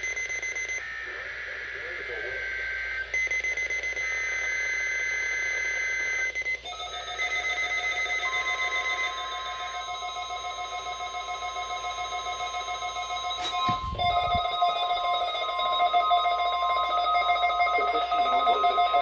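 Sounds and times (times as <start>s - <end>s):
pulsing electronic alert tone: 0.0s - 19.0s
screechy digital data burst: 0.0s - 19.0s
steady electronic tone: 0.0s - 19.0s.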